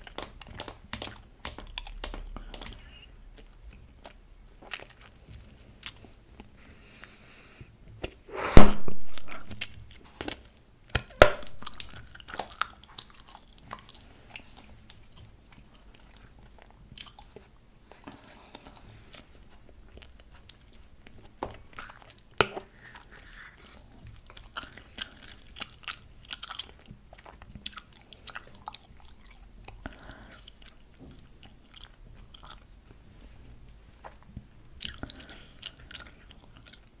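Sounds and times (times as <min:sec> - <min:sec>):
bubble gum chewing: 0:00.0 - 0:06.6, 0:08.0 - 0:33.0, 0:34.7 - 0:37.0.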